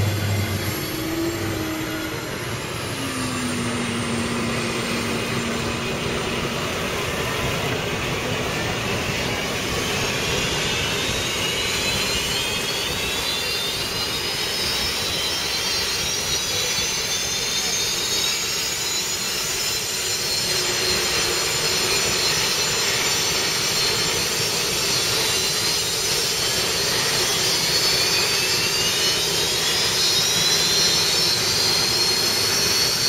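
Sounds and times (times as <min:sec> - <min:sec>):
gas-turbine engines roaring: 0:00.0 - 0:33.0
high turbine whine rising: 0:00.0 - 0:33.0.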